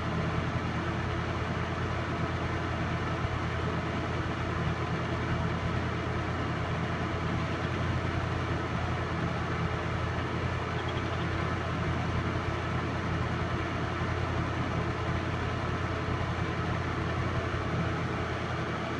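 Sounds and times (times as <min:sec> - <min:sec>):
film projector running: 0:00.0 - 0:18.9.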